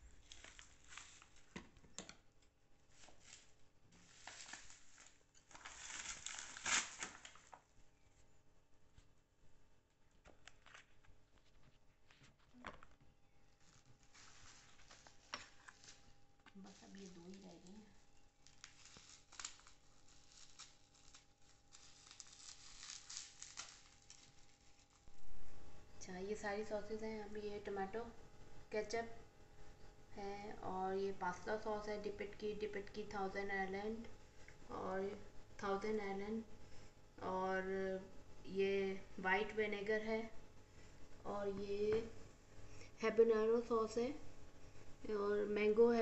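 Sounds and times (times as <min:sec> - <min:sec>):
faint rustling and handling: 0:00.0 - 0:46.0.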